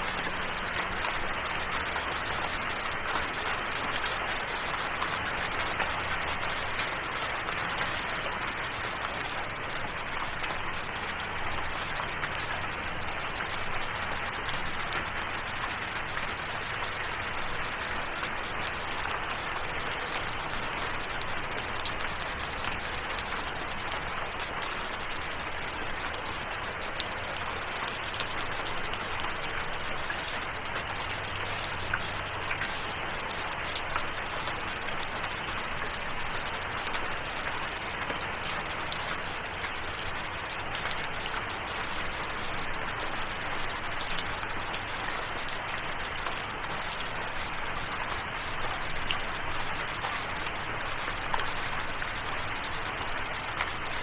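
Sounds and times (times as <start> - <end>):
raindrops ticking on a surface: 0.0 - 54.0
steady rain: 0.0 - 54.0.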